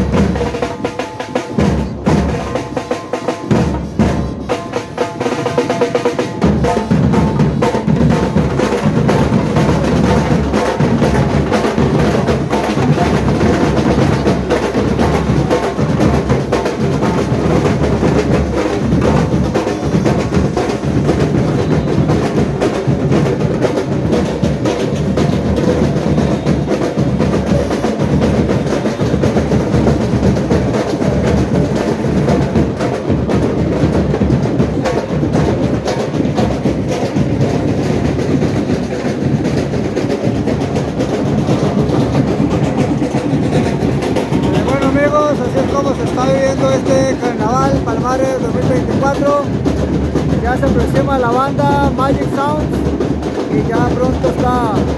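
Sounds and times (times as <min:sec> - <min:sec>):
bass drums: 0:00.0 - 0:04.7, 0:05.6 - 0:54.9
snare drums: 0:00.0 - 0:54.9.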